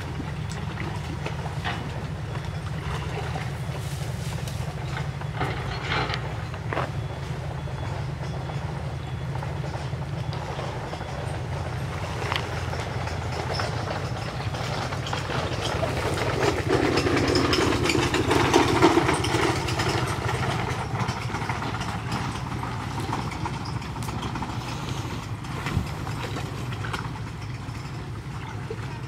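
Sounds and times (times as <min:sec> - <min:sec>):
low engine drone: 0:00.0 - 0:29.0.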